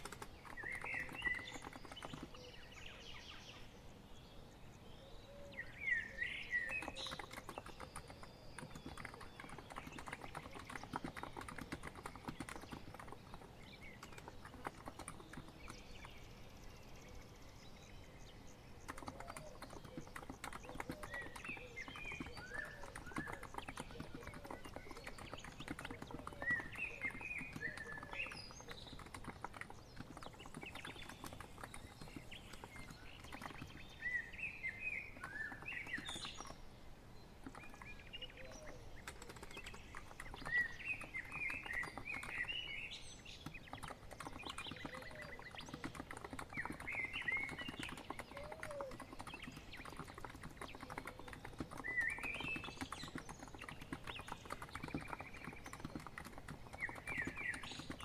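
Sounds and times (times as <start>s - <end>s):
keyboard typing clicks: 0.0s - 2.5s, 6.6s - 16.2s, 18.8s - 34.1s, 34.9s - 36.6s, 37.4s - 58.0s
birds chirping: 0.0s - 58.0s.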